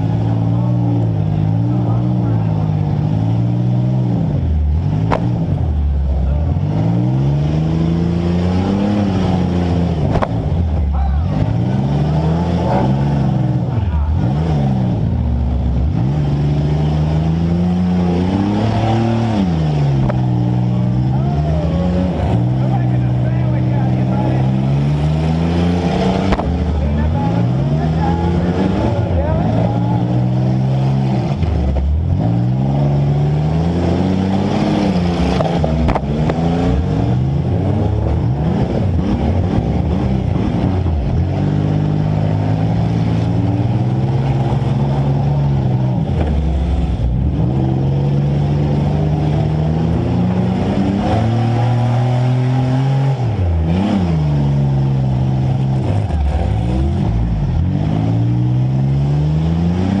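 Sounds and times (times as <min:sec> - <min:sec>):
car engine revving: 0:00.0 - 1:00.0.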